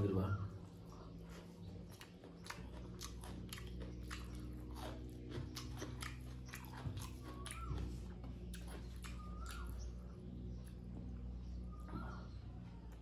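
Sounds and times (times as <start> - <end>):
steady low hum: 0.0 - 13.0
man chewing: 0.5 - 11.2.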